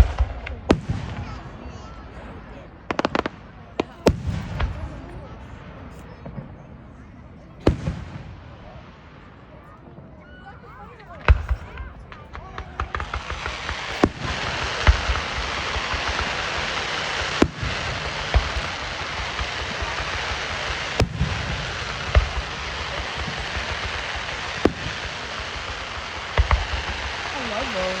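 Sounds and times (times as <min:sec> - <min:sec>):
fireworks crackling hiss: 0:00.0 - 0:06.4, 0:07.6 - 0:28.0
fireworks bangs: 0:00.0 - 0:28.0.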